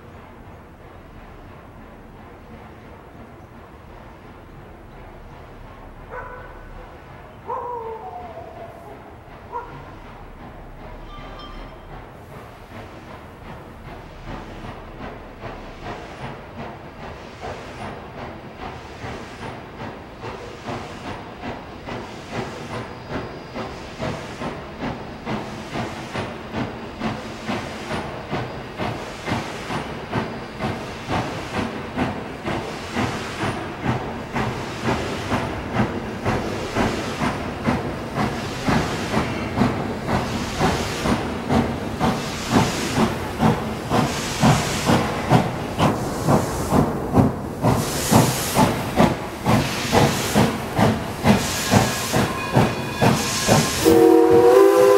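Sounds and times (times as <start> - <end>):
steam locomotive chuffing: 0.0 - 54.9
steam hissing: 8.2 - 54.9.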